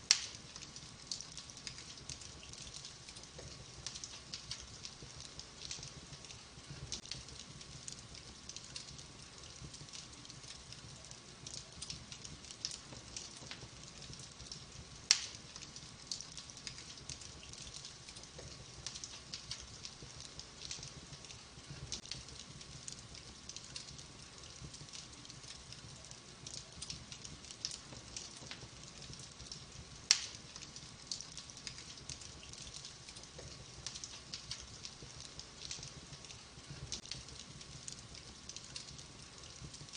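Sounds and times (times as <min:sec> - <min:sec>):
loud sharp pops of fire: 0:00.0 - 0:10.4, 0:11.5 - 0:25.4, 0:26.4 - 0:39.0
wood fire crackling: 0:00.0 - 0:39.9.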